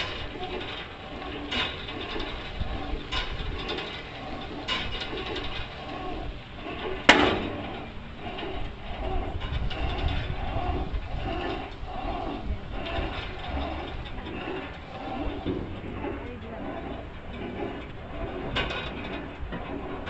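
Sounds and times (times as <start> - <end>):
fitness machine clacking: 0.0 - 20.0.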